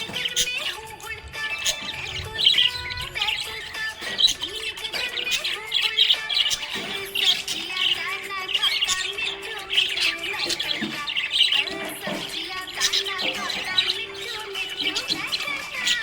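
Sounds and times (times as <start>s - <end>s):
budgerigars chirping and warbling: 0.0s - 16.0s.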